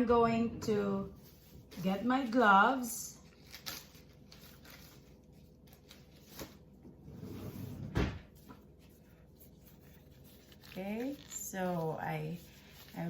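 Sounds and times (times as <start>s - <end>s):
disposable gloves rustling: 1.1s - 7.0s, 8.2s - 13.0s.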